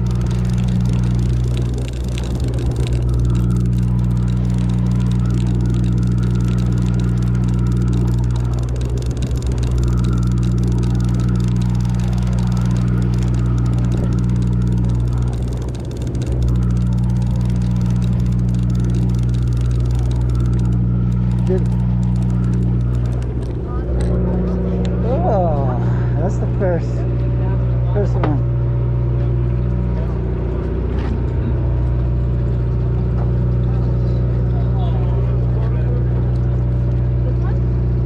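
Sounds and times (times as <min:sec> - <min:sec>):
boat engines droning: 0:00.0 - 0:38.0.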